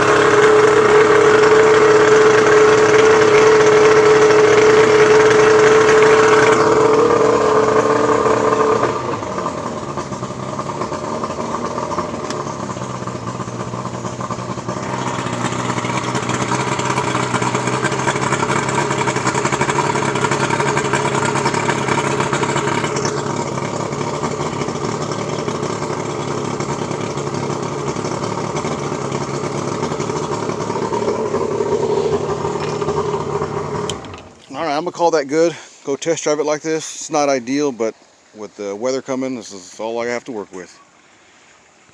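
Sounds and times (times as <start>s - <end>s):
outboard motor running: 0.0s - 41.8s.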